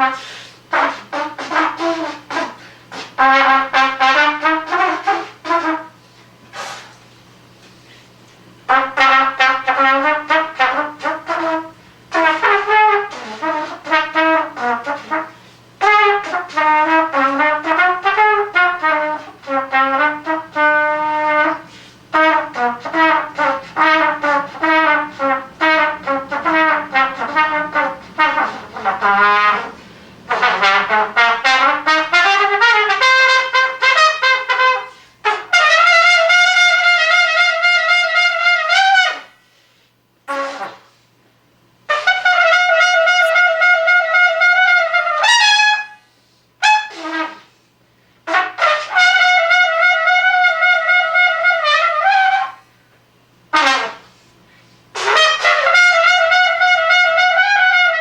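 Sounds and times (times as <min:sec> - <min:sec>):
trumpet-like jazz solo: 0:00.0 - 0:07.0, 0:08.6 - 0:39.5, 0:40.2 - 0:41.1, 0:41.8 - 0:47.6, 0:48.2 - 0:52.7, 0:53.5 - 0:54.3, 0:54.9 - 0:58.0.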